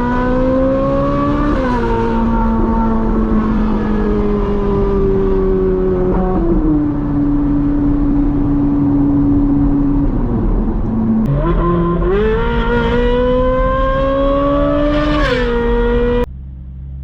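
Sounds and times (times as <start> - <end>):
sports car engine revving: 0.0 - 17.0.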